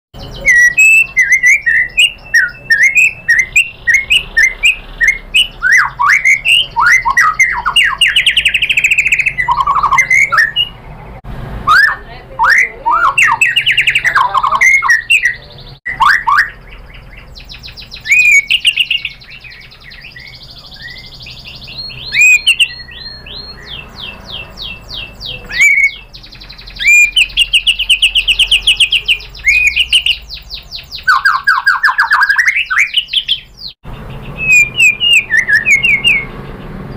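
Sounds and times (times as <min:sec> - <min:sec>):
bird singing whistled notes: 0:00.2 - 0:11.0, 0:11.7 - 0:36.5.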